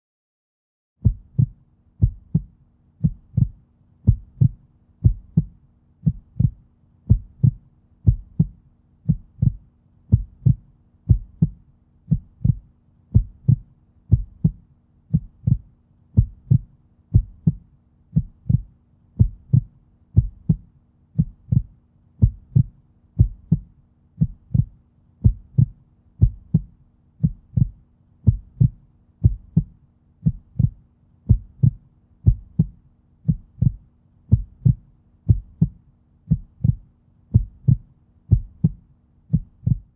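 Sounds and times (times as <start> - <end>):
heartbeat thumping: 1.0 - 39.9.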